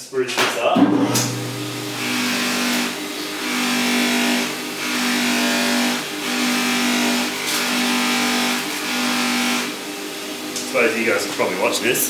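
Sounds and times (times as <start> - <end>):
polisher motor humming: 1.4 - 11.8.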